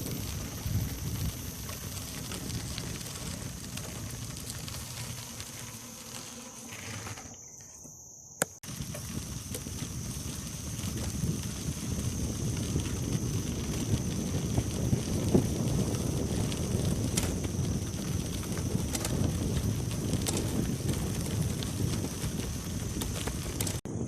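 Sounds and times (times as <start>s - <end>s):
wind rumble on microphone: 0.0s - 6.1s, 8.6s - 24.0s
insects droning: 0.0s - 24.0s.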